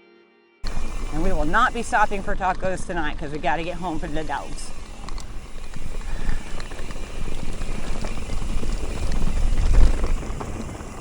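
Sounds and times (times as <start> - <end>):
bike knocks and rattles: 0.6 - 11.0
bike tyres rumbling on rock: 0.6 - 11.0.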